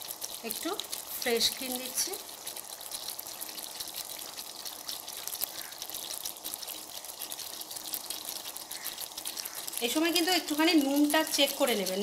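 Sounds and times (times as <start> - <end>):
gravy sizzling in a pan: 0.0 - 12.0.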